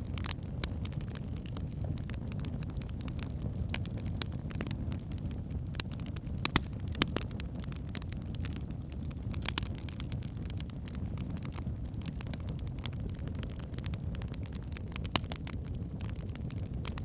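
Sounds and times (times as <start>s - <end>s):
logs crackling and popping: 0.0s - 17.0s
low rumble of flames: 0.0s - 17.0s.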